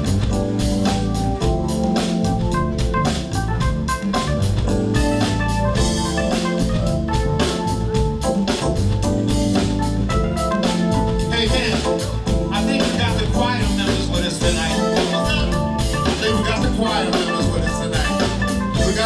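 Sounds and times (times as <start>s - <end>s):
organ chords: 0.0s - 19.0s
steady drum beat: 0.0s - 19.0s.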